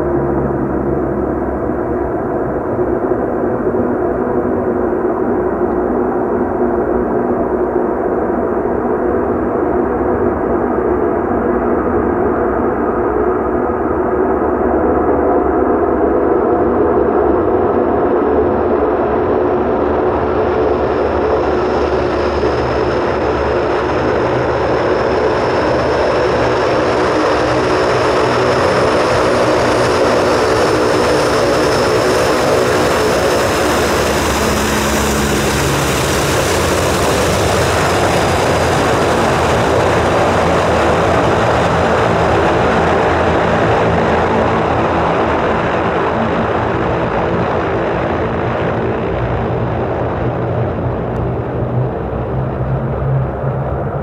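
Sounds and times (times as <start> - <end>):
high engine whine: 0.0 - 54.0
turboprop engines running: 0.0 - 54.0.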